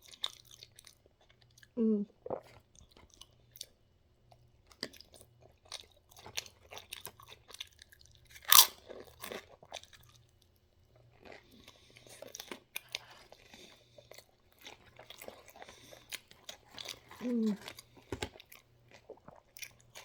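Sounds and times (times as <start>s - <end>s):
crunchy wet chewing: 0.0s - 10.4s, 11.0s - 20.0s.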